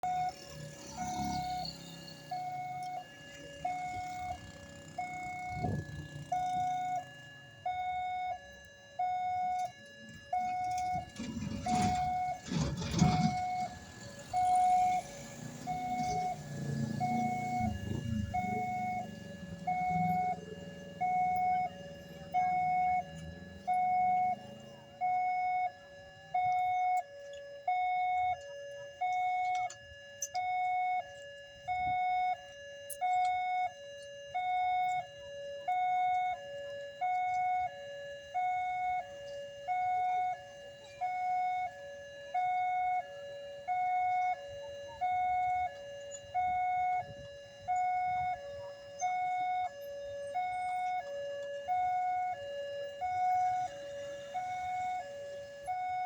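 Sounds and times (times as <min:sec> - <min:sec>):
vehicle rumble: 0:00.0 - 0:42.4, 0:43.0 - 0:56.0
two-tone crossing alarm: 0:00.0 - 0:56.0.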